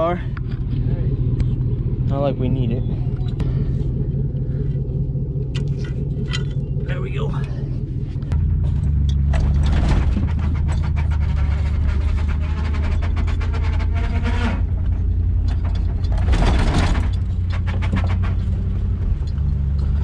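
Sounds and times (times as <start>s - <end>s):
truck engine running under load: 0.0s - 20.0s.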